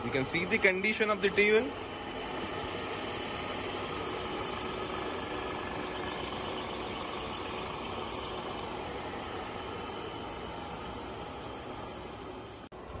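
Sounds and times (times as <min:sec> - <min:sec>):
grinder machine hum: 0:00.0 - 0:13.0.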